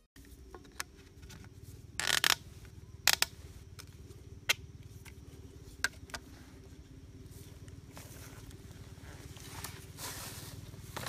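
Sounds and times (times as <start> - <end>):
faint low hum: 0.2 - 11.0.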